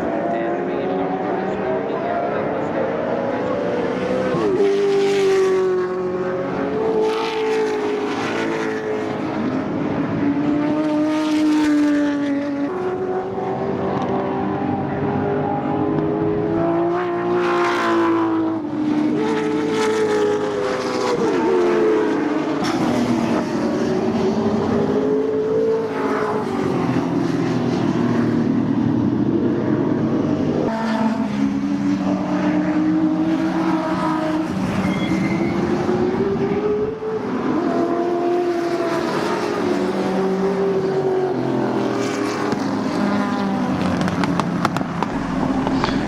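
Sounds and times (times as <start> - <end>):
racing car engines passing: 0.0 - 46.0.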